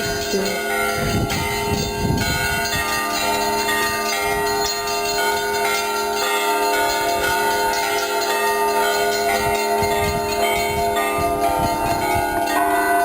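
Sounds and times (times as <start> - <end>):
bells ringing: 0.0 - 13.0.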